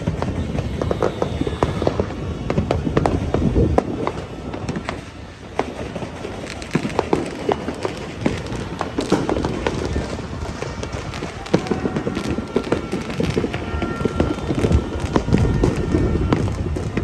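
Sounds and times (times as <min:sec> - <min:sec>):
fireworks and firecrackers banging: 0:00.0 - 0:17.0
people's voices: 0:00.0 - 0:17.0.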